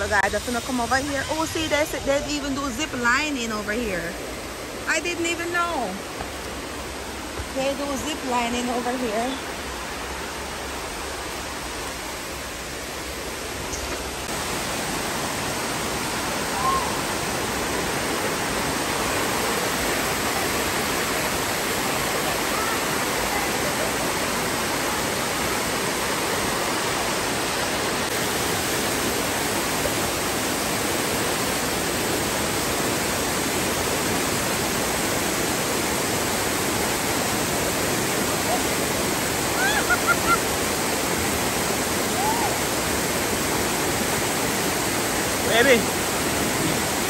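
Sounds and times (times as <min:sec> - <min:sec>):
water cascading into pools: 0:00.0 - 0:47.0.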